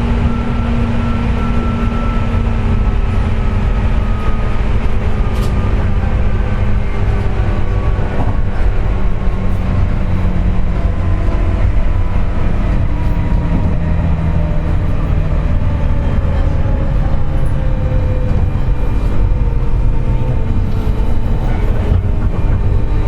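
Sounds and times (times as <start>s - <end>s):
train rail rumble: 0.0s - 23.0s.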